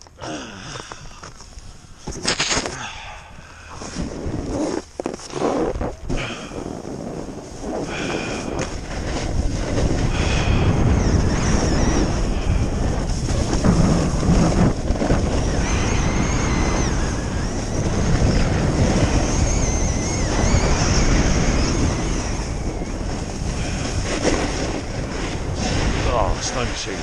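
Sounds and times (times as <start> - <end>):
wind rushing over microphone: 0.6 - 27.0
ski edges scraping snow: 3.7 - 27.0.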